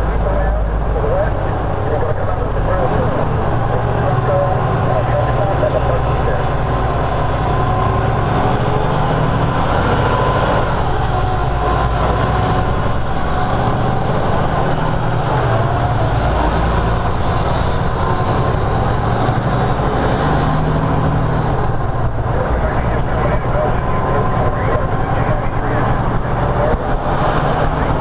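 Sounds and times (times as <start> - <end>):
diesel engine and road drone: 0.0 - 28.0.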